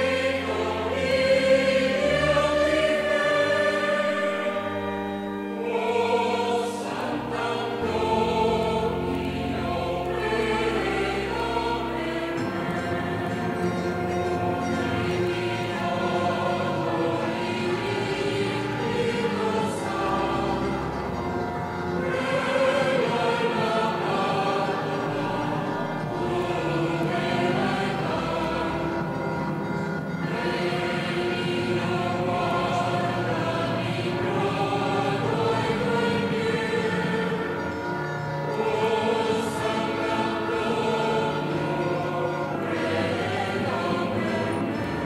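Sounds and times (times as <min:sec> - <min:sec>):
choir singing a hymn: 0:00.0 - 0:45.0.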